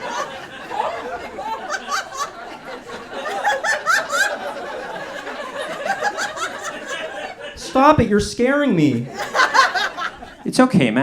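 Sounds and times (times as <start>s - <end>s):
audience laughter: 0.0s - 10.6s.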